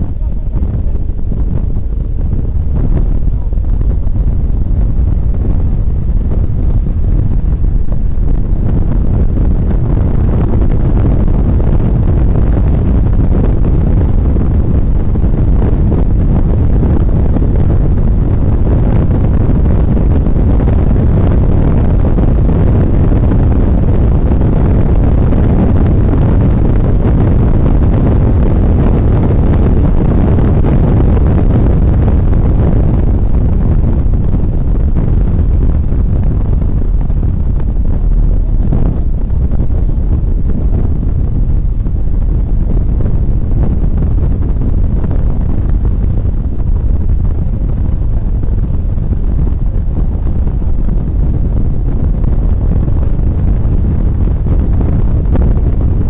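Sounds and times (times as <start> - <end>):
wind noise on microphone: 0.0 - 56.0.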